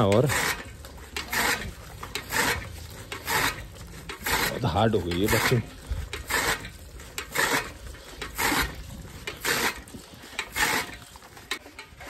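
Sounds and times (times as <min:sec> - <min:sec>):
chaff cutter chopping grass: 0:00.0 - 0:12.0.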